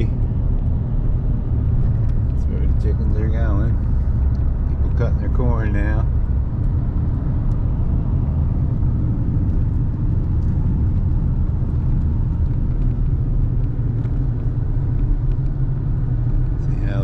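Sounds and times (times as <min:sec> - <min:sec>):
vehicle driving on road: 0:00.0 - 0:17.0.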